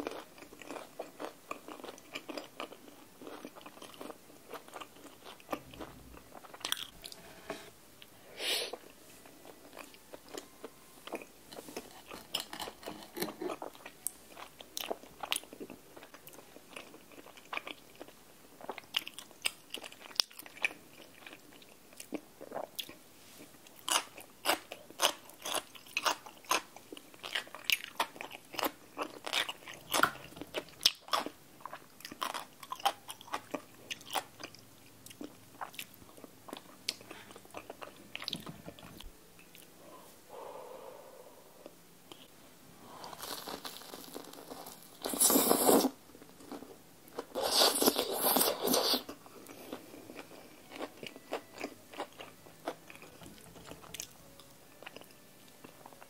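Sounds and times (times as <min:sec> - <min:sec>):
person chewing and biting food: 0:00.0 - 0:07.0, 0:08.7 - 0:23.0, 0:23.7 - 0:38.9, 0:43.0 - 0:54.2.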